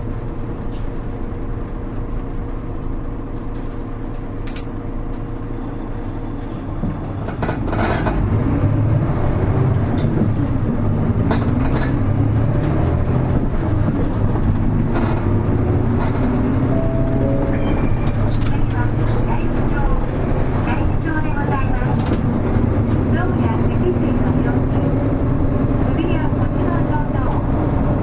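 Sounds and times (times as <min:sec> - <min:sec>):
bus diesel engine humming: 0:00.0 - 0:28.0
road noise: 0:00.0 - 0:28.0.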